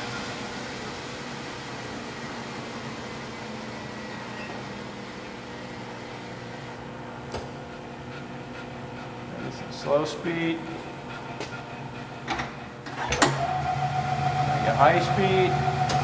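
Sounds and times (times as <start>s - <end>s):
lathe motor humming: 0.0s - 16.0s.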